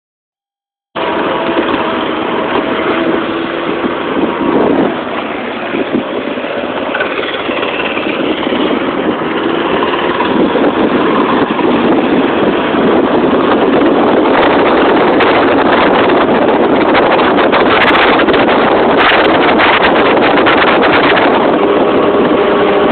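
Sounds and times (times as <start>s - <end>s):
small single-cylinder engine running: 1.0s - 22.9s
wind buffeting microphone: 1.0s - 22.9s.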